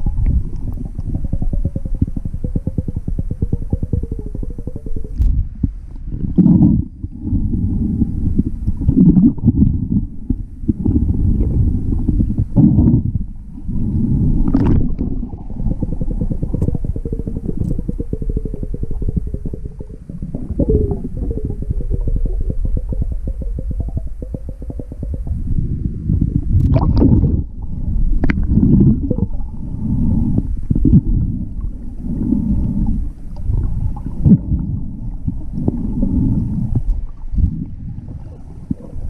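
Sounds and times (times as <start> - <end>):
underwater water rumble: 0.0 - 39.0.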